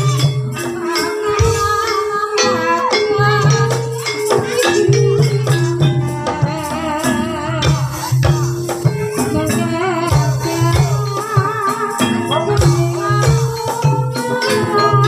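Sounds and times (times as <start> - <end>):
drum strokes: 0.0 - 15.0
gamelan held pitched notes: 0.0 - 15.0
person singing: 0.0 - 15.0
rattling percussion: 0.0 - 15.0.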